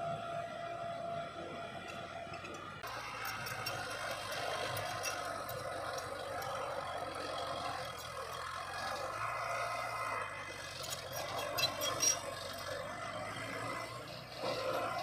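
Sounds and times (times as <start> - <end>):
heavy machine diesel engine: 0.0 - 15.0.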